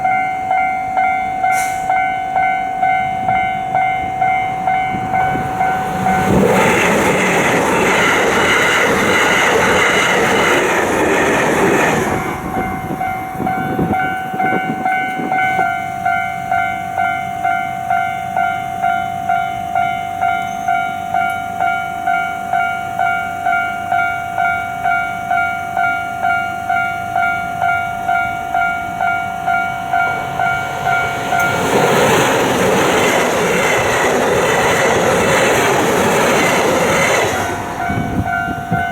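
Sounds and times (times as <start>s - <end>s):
electronic crossing bell ringing: 0.0s - 38.9s
train passing: 0.0s - 38.9s.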